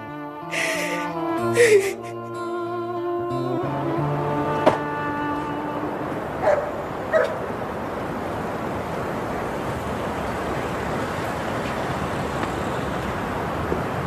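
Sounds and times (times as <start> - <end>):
distant traffic noise: 0.6 - 2.2, 3.3 - 14.0.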